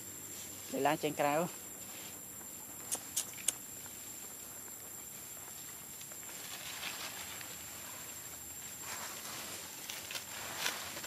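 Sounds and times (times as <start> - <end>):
rustling in dry leaves: 0.0 - 2.8, 3.7 - 11.0
steady high-pitched whine: 0.0 - 11.0.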